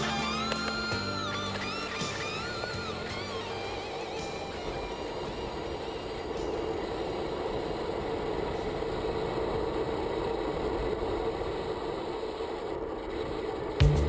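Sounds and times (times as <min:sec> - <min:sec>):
bicycle tyre noise on road: 0:00.0 - 0:14.0.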